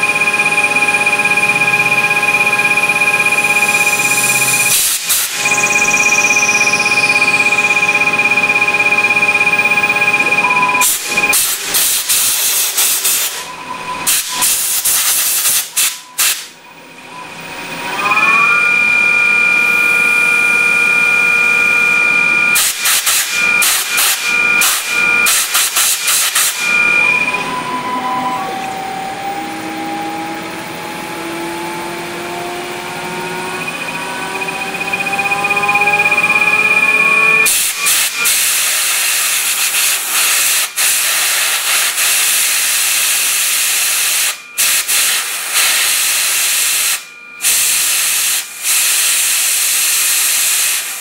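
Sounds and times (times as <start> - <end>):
lathe whining: 0.0 - 14.9, 16.4 - 22.7, 23.3 - 44.6.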